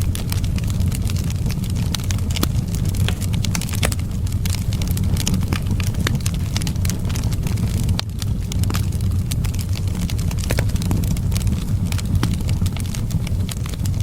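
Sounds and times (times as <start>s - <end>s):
low wind rumble: 0.0s - 14.0s
wood fire crackling and popping: 0.0s - 14.0s.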